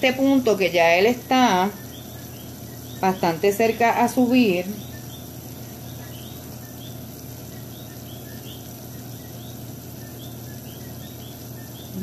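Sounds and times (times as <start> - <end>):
steady low hum: 0.0 - 12.0
syrup boiling with bubble pops: 0.0 - 12.0.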